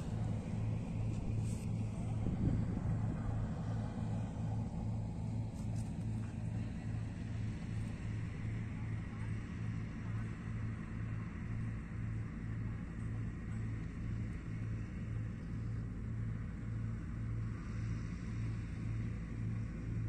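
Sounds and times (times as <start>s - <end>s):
diesel engine throbbing: 0.0s - 20.0s.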